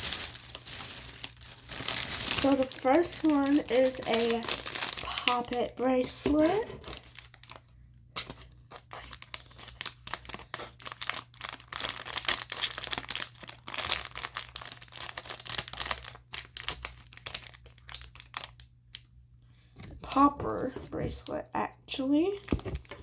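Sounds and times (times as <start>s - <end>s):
packaging crinkling and tearing: 0.0s - 19.0s, 22.4s - 23.0s.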